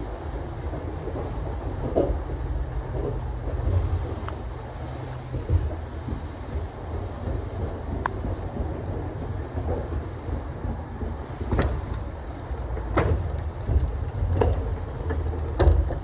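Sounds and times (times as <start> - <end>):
vehicle road and engine rumble: 0.0 - 16.0.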